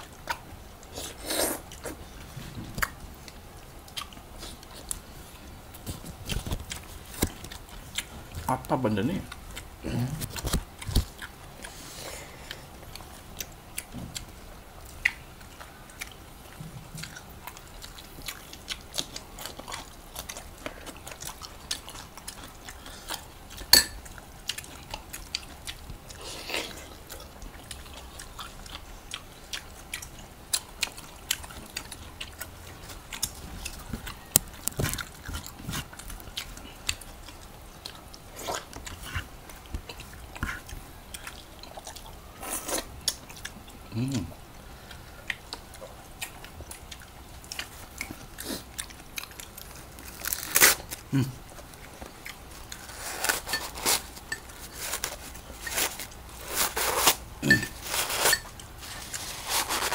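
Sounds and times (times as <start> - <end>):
chewing and mouth smacks: 0.0 - 5.1, 5.7 - 56.4.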